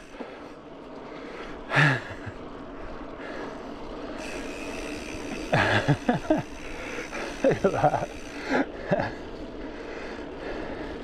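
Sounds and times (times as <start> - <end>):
bicycle tyre and wind noise: 0.0 - 11.0.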